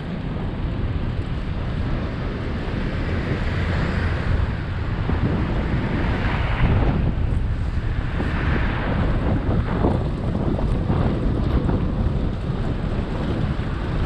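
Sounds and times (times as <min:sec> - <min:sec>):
road and traffic hiss: 0:00.0 - 0:14.0
wind buffeting microphone: 0:00.0 - 0:14.0.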